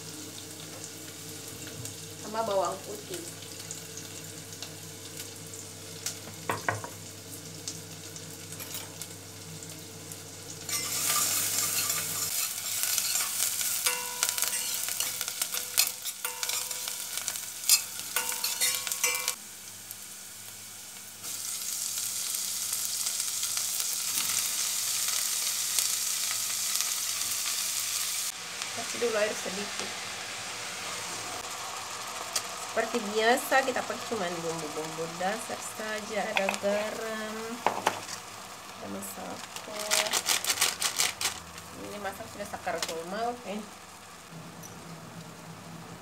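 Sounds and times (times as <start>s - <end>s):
onion and garlic sizzling in oil: 0.0s - 46.0s.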